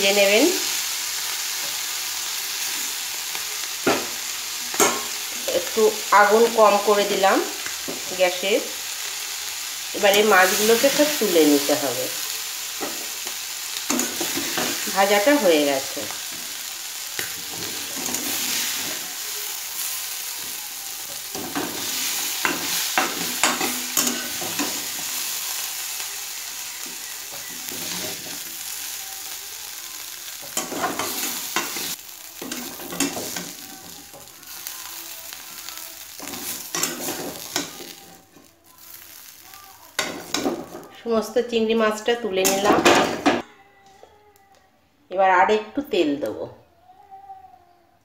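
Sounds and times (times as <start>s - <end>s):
prawns sizzling in hot oil: 0.0s - 43.4s.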